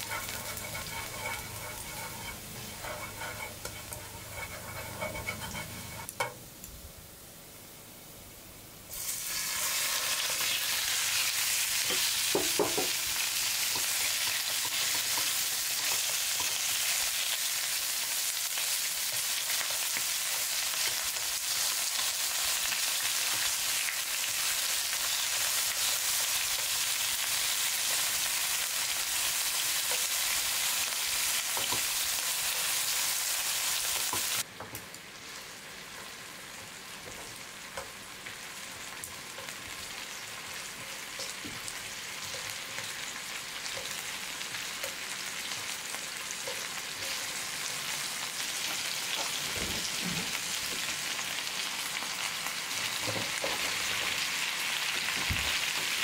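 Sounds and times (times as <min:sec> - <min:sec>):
chicken sizzling in a frying pan: 0:00.0 - 0:56.0.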